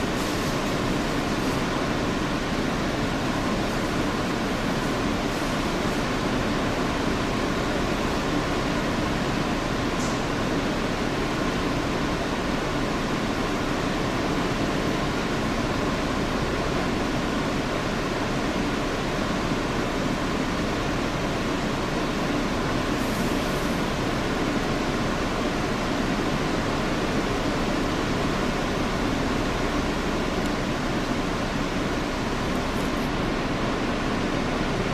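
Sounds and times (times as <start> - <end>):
subway car hiss and hum: 0.0 - 34.9.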